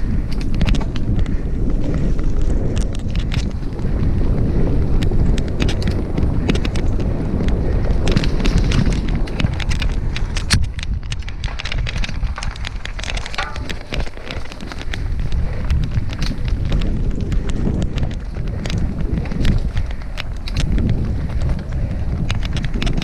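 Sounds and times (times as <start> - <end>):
bike clicks and rattles: 0.0 - 23.0
bike tyres rumbling: 0.0 - 23.0
wind rushing over microphone: 0.0 - 23.0.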